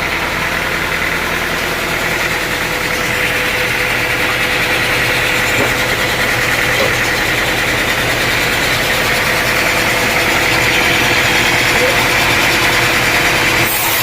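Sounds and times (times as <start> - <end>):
sawmill machinery engine humming: 0.0 - 14.0.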